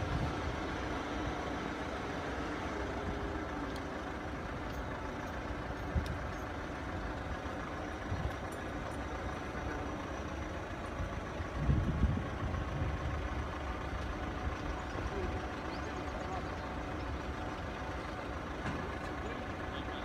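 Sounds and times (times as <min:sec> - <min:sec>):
vehicles idling: 0:00.0 - 0:20.0.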